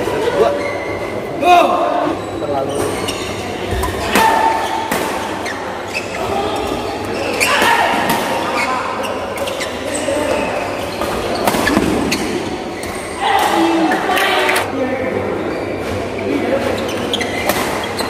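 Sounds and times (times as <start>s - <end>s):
voices in background: 0.0s - 18.0s.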